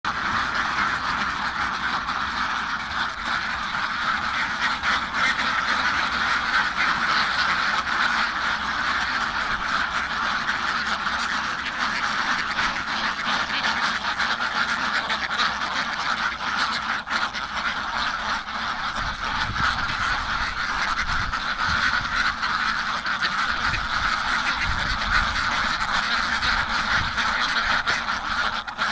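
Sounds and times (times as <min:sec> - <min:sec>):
many ducks quacking: 0:00.0 - 0:28.9.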